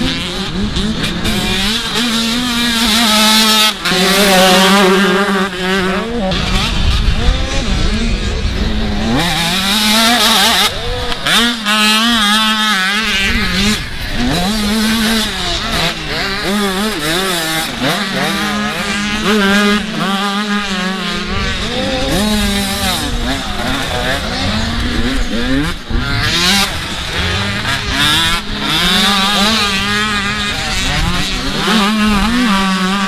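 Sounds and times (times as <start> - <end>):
dirt bike engines revving: 0.0 - 33.0.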